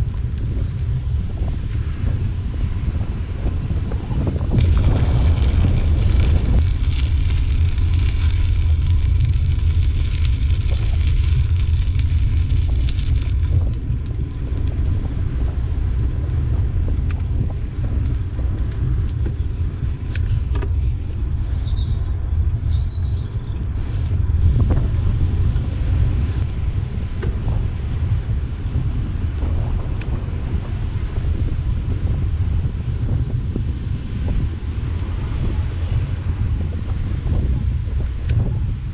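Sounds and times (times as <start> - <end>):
bicycle rolling low rumble: 0.0 - 38.9
wind buffeting microphone: 0.0 - 38.9.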